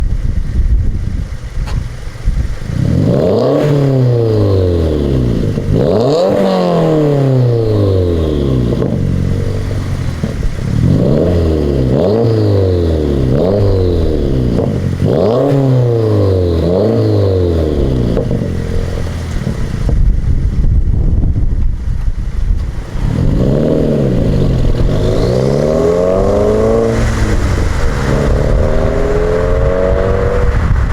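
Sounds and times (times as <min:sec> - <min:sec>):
car engine revving: 0:02.0 - 0:20.7, 0:22.0 - 0:30.9.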